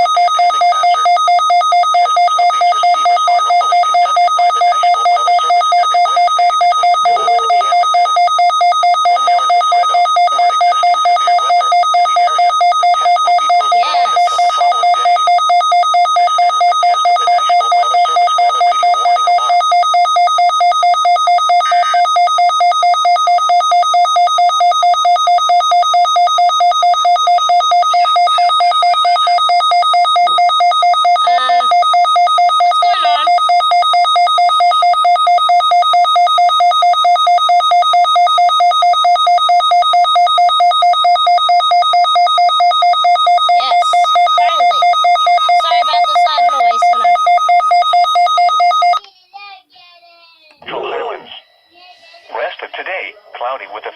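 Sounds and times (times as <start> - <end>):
pulsing two-tone electronic alarm: 0.0 - 49.0.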